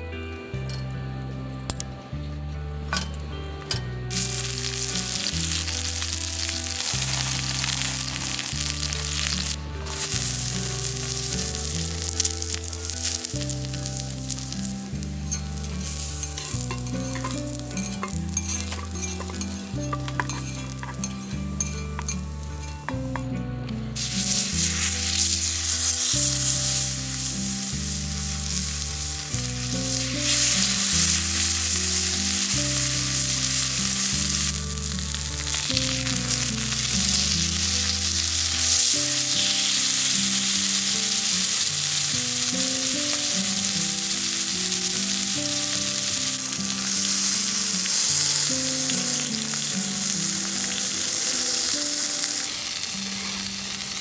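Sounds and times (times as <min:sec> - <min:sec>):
background music with bass line: 0:00.0 - 0:50.2
food sizzling in a pan: 0:04.1 - 0:23.3, 0:23.9 - 0:54.0.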